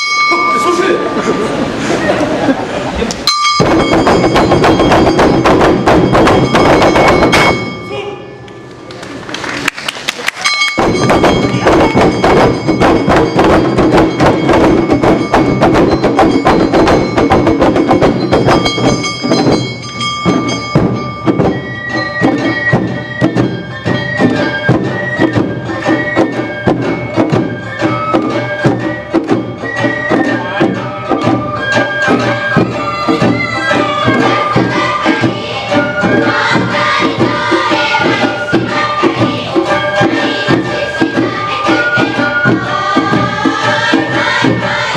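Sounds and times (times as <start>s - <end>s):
bamboo flute melody: 0.0s - 2.6s, 10.4s - 44.9s
drums and gongs beating: 0.0s - 44.9s.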